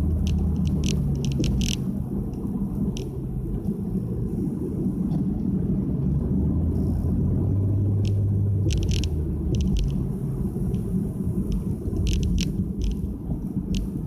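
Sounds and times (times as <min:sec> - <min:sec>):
car engine and exhaust droning: 0:00.0 - 0:14.0.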